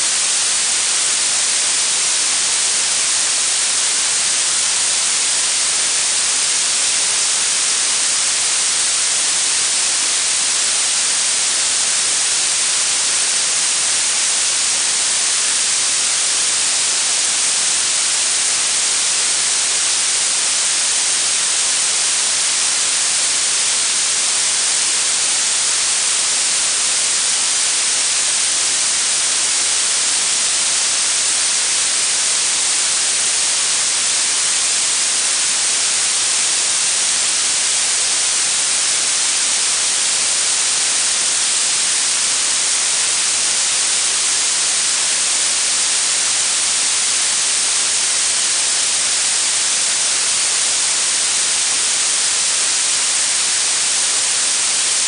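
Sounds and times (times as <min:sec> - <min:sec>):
high-pitched steady hiss: 0:00.0 - 0:55.0.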